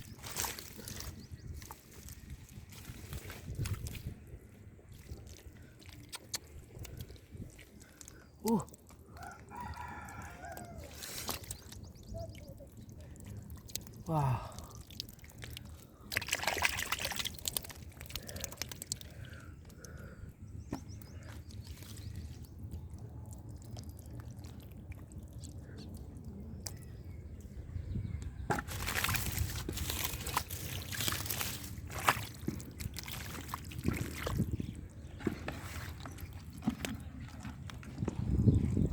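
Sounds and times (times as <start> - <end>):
muddy water sloshing: 0.0 - 38.9.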